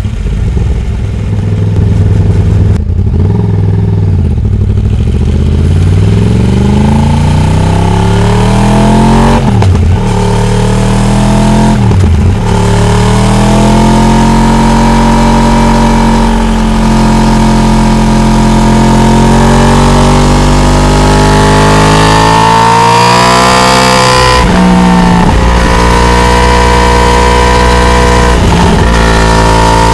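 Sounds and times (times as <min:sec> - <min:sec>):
motorcycle engine accelerating hard: 0:00.0 - 0:29.9.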